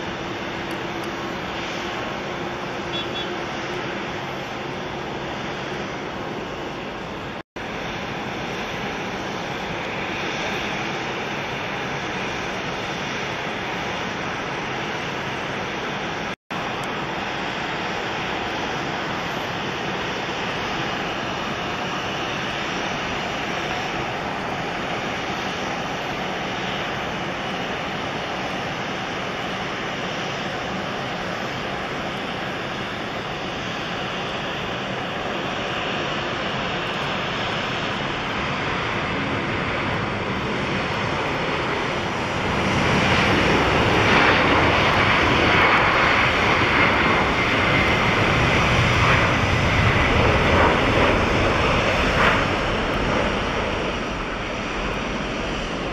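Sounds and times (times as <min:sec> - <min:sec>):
jet engines at takeoff: 0:00.0 - 0:55.9.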